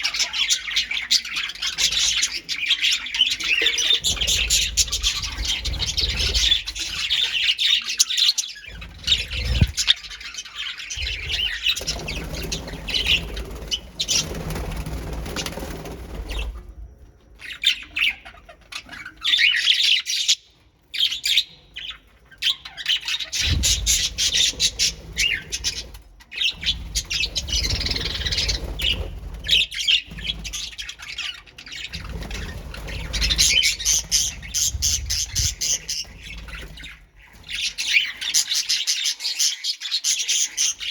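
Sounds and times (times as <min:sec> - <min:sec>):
birds chirping and squawking: 0:00.0 - 0:40.9.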